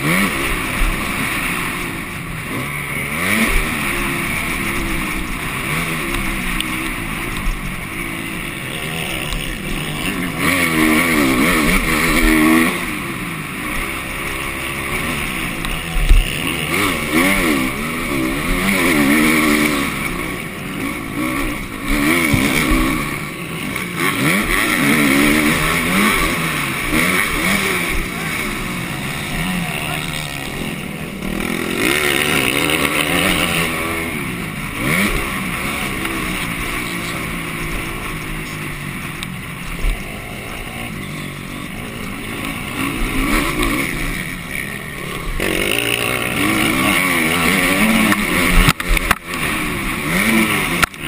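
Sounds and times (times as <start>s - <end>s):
motocross bike engine revving: 0.0s - 51.0s.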